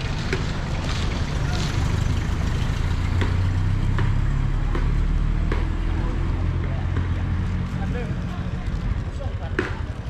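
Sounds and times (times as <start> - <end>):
engine humming steadily: 0.0 - 10.0.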